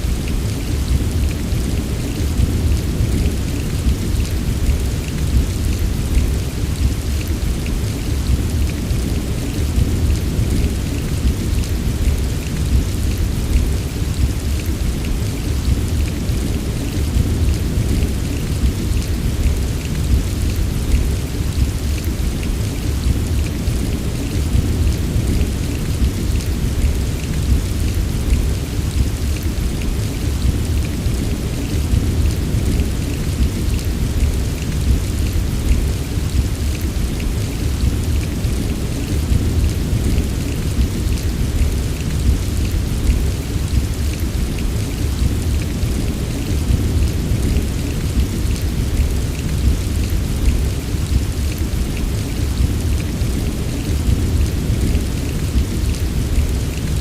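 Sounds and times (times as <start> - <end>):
heavy rain patter: 0.0 - 57.0.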